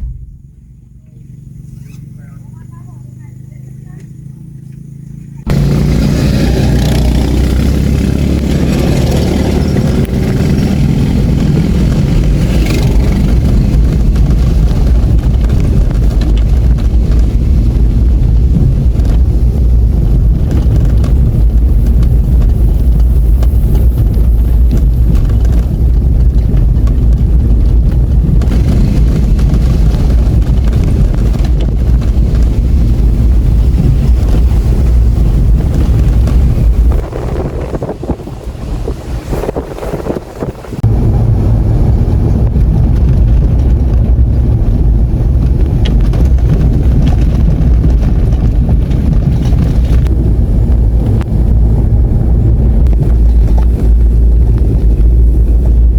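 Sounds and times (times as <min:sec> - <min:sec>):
vehicle engine rumbling: 0:00.0 - 0:55.9.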